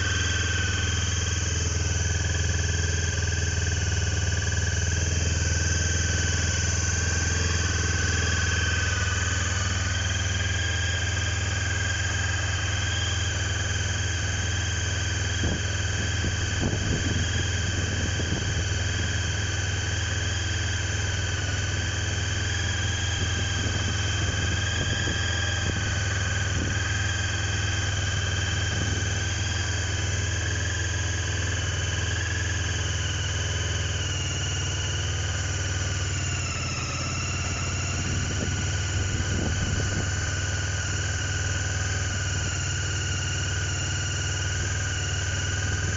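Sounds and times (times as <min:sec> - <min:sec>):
high whine: 0:00.0 - 0:45.9
motorcycle engine idling: 0:00.0 - 0:45.9.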